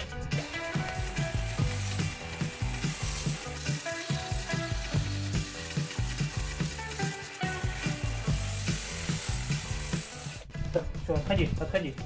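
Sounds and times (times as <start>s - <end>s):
background music with steady beat: 0.0s - 12.0s
drill sanding paint off wood: 0.3s - 10.5s.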